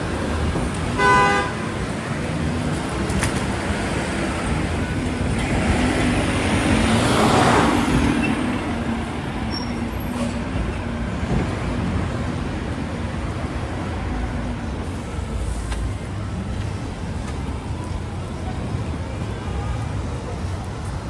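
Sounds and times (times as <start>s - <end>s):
steady traffic engine hum: 0.0s - 21.0s.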